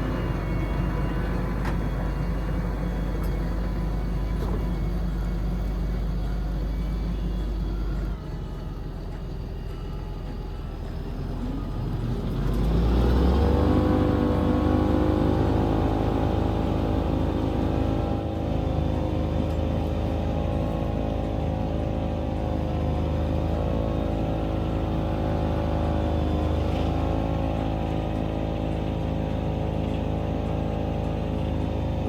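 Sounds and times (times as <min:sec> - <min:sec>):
engine whine: 0:00.0 - 0:32.0
tractor engine running: 0:00.0 - 0:32.0.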